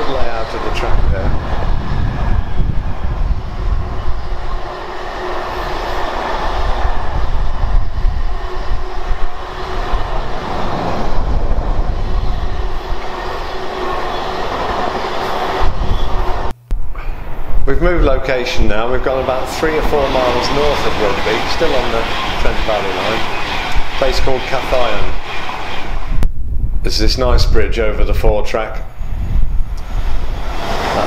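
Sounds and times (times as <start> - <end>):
train wheels rumbling on rail: 0.0 - 16.5, 17.7 - 28.2, 29.0 - 31.0.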